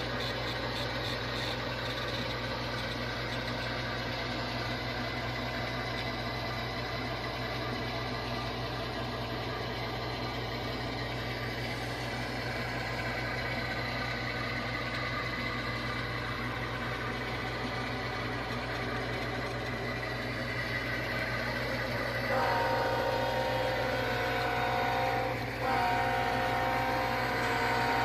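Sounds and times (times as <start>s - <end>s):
diesel locomotive idling through speakers: 0.0s - 28.0s.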